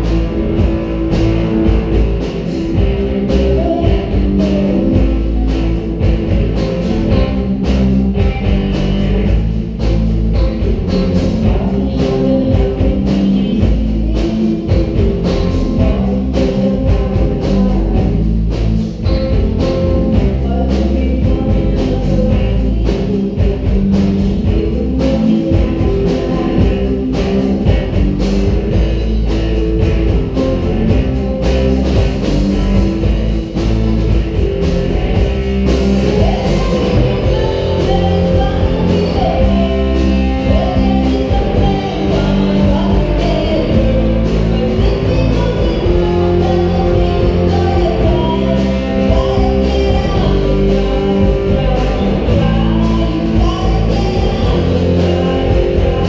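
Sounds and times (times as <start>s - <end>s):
live rock band playing: 0.0s - 56.0s
woman singing: 0.0s - 56.0s.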